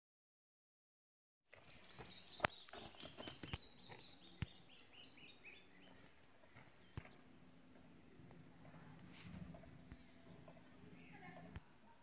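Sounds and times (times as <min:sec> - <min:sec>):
bird chirping: 0:01.5 - 0:11.5.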